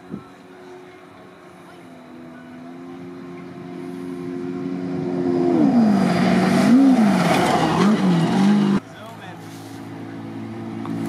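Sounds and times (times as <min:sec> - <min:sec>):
buggy engine at speed: 0:00.0 - 0:11.0.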